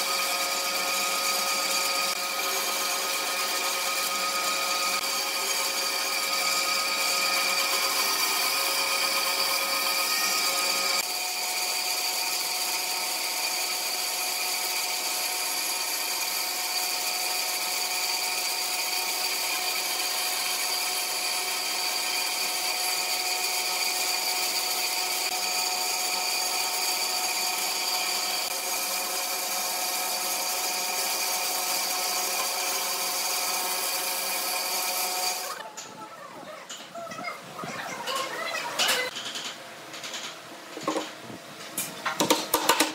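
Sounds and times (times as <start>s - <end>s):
band saw whining: 0.0s - 35.9s.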